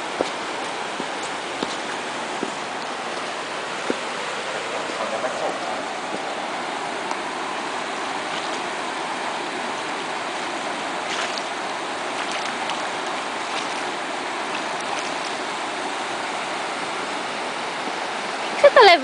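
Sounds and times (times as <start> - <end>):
flowing river water: 0.0 - 19.0.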